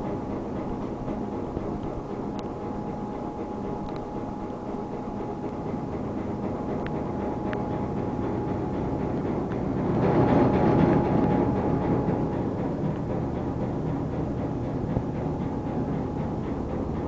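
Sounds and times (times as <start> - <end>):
high whine: 0.0 - 17.0
pumping machinery drone: 0.0 - 17.0.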